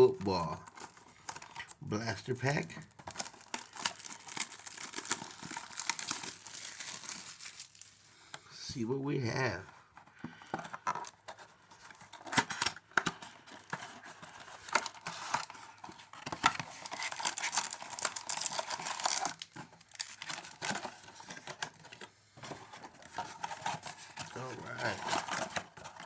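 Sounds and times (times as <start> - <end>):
plastic wrap crinkling and tearing: 0.0 - 8.1, 12.1 - 22.0, 22.8 - 26.0.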